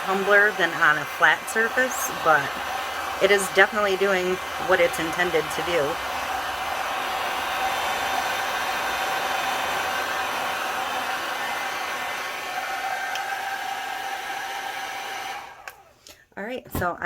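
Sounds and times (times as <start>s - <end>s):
hot-air blower whirring: 0.0s - 16.0s.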